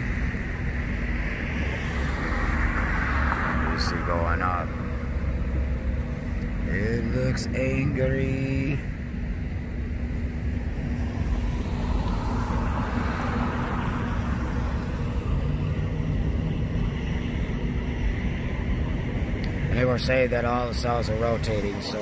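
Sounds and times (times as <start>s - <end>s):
road traffic noise: 0.0s - 22.0s
vehicle passing with low rumble: 0.0s - 22.0s.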